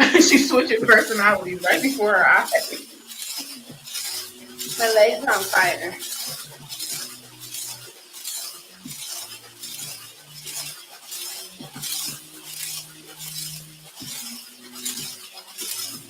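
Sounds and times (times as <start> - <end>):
rhythmic rattling swish: 0.0 - 16.0.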